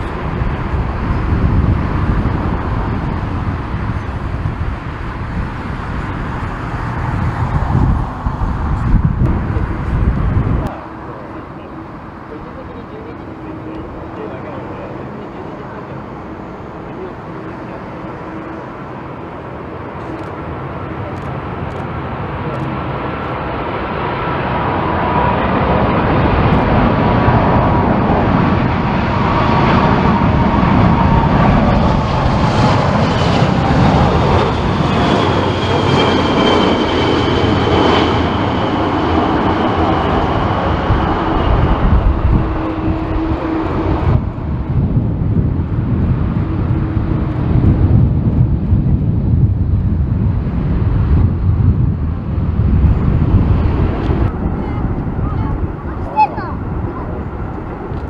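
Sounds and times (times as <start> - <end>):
jet engine whine falling in pitch: 0.0 - 58.0
jet engines roaring: 0.0 - 58.0.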